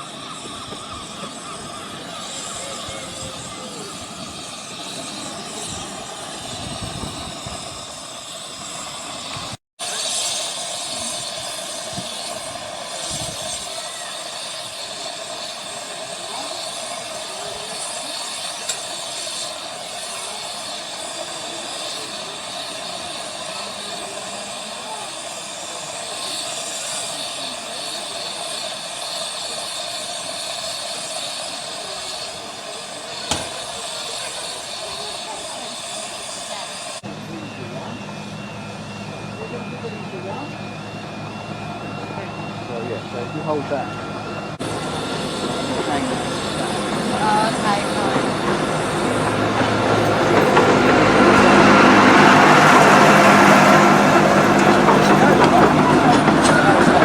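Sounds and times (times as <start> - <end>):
steam hissing: 0.0 - 40.8, 41.9 - 57.0.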